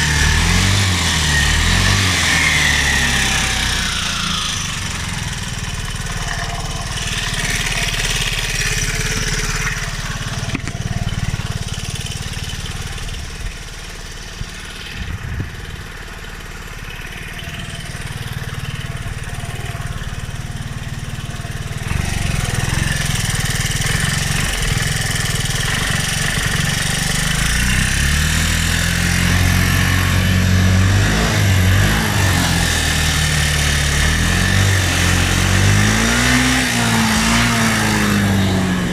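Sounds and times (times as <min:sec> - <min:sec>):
scooter engine running and revving: 0:00.0 - 0:38.9.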